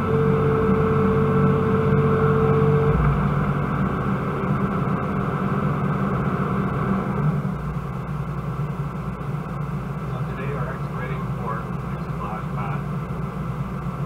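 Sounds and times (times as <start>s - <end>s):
diesel engine running under load: 0.0s - 14.0s
high whine: 0.0s - 14.0s.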